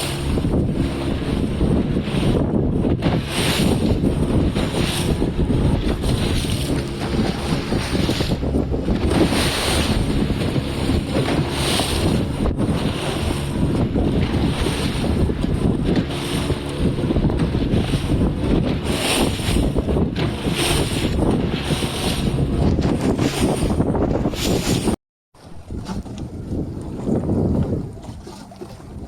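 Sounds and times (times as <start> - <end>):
low boat engine drone: 0.0 - 29.0
water splashing against hull: 0.0 - 29.0
wind on microphone: 0.0 - 29.0.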